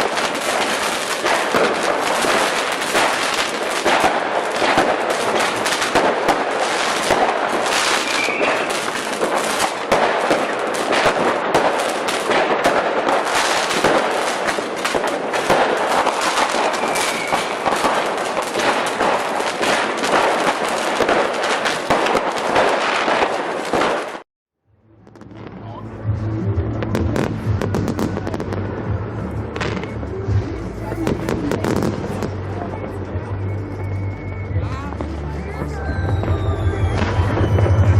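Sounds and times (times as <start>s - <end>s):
firecrackers popping and cracking: 0.0s - 24.3s, 25.0s - 25.8s, 26.7s - 33.3s.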